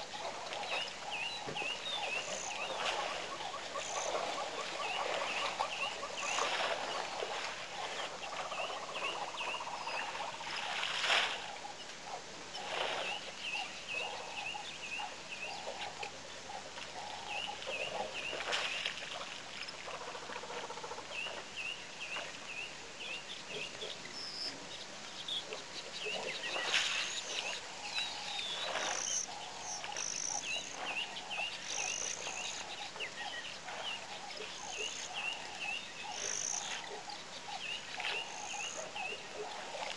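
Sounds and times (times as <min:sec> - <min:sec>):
birds chirping: 0:00.0 - 0:11.6, 0:12.6 - 0:19.3, 0:21.0 - 0:39.7.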